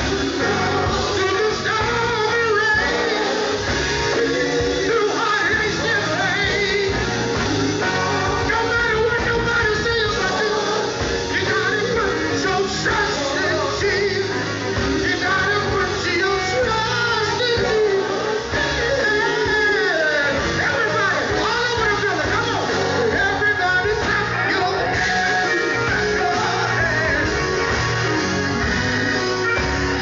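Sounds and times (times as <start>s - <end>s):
band with guitars and drums: 0.0s - 30.0s
male gospel group singing: 0.0s - 30.0s.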